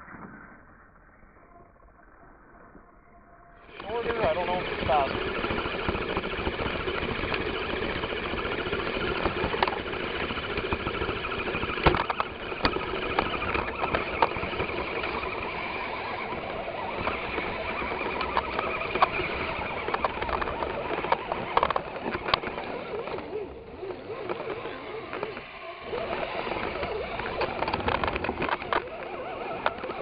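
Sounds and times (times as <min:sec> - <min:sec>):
electric motor and gears whirring: 0:03.6 - 0:30.0
sharp clicks and knocks: 0:03.7 - 0:30.0.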